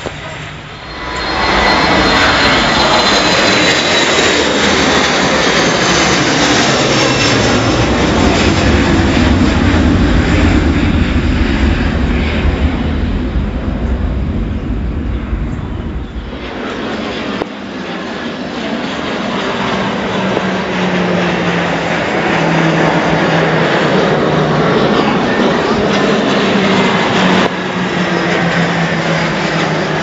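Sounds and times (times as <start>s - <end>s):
high jet engine whine: 0.0s - 30.0s
jet airliner roar: 0.0s - 30.0s.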